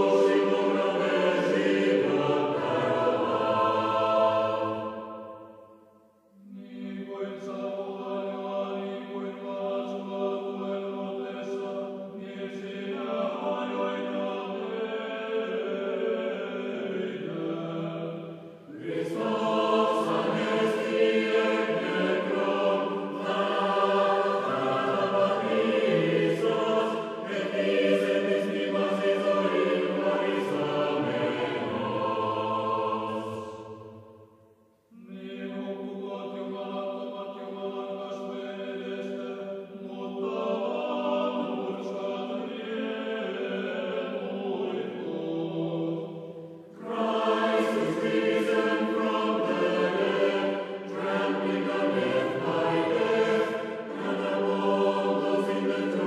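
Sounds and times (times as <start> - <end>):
choir singing sustained chords: 0.0 - 56.0.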